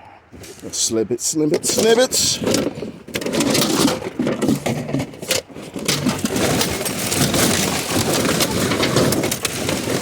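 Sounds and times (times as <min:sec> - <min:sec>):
plastic bags rustling: 0:01.6 - 0:10.0.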